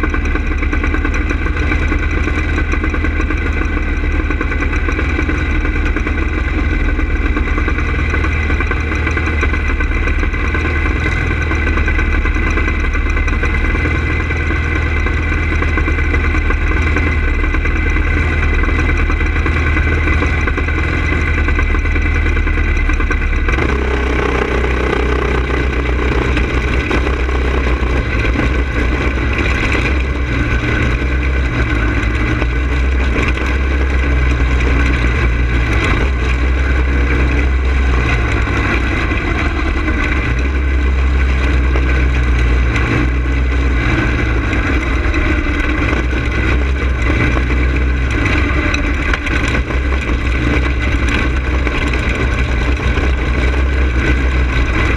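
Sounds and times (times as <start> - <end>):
go-kart engine running: 0.0 - 54.9.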